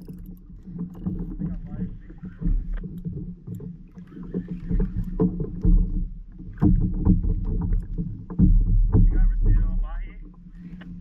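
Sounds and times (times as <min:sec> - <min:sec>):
water slapping kayak hull: 0:00.0 - 0:11.0.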